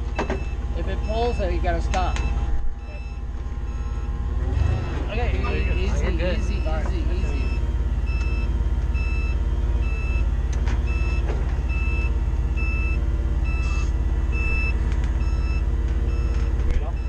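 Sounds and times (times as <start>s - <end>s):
forklift backup alarm beeping: 0.0s - 17.0s
forklift engine running: 0.0s - 17.0s.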